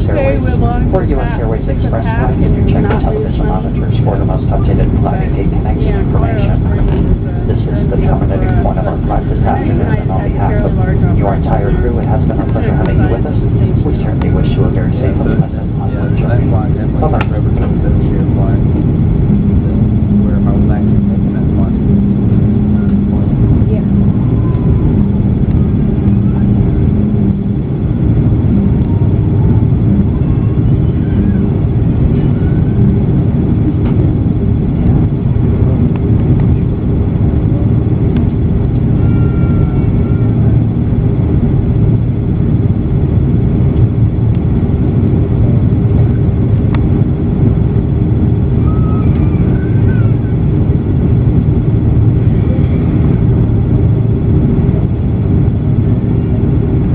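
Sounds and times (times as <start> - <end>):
airliner engines rumbling: 0.0 - 56.9
cabin air noise: 0.0 - 56.9.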